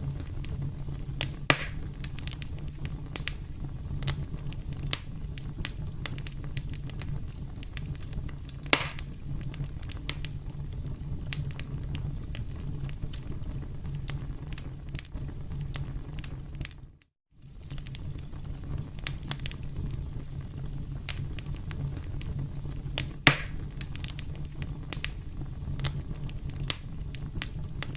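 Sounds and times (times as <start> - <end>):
campfire rumble: 0.0 - 27.9
wood crackling and popping: 0.0 - 27.9.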